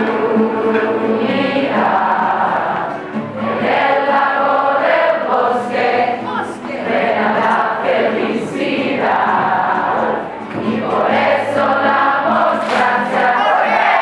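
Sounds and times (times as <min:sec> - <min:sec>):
group of young voices singing: 0:00.0 - 0:14.0.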